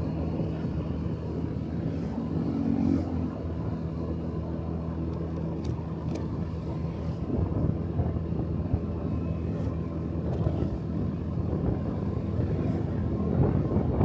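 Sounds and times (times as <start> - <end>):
road noise: 0.0 - 14.0
small motorcycle engine running: 0.0 - 14.0.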